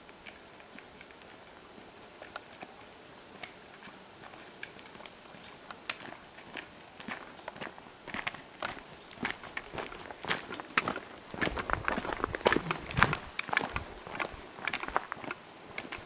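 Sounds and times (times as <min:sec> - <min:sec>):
trekking poles clicking: 0:00.0 - 0:16.0
footsteps crunching on gravel: 0:00.3 - 0:16.0.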